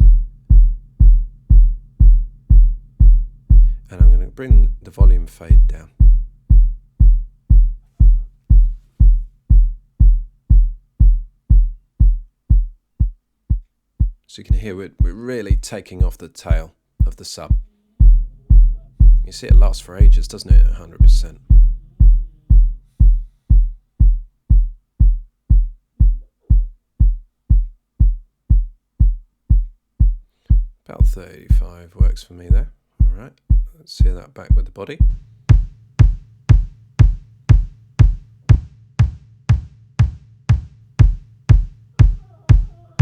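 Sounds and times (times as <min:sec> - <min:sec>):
deep sub kick drum hits: 0:00.0 - 0:43.0.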